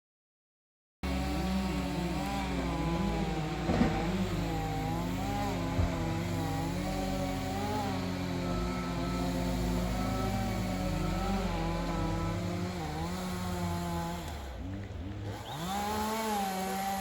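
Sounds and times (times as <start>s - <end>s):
engine running: 1.0s - 17.0s.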